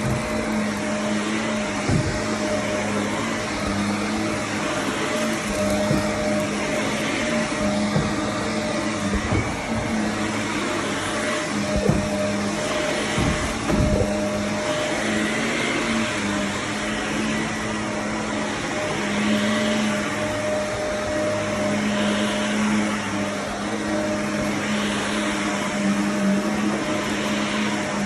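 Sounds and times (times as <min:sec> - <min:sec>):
vacuum cleaner on carpet: 0:00.0 - 0:28.0.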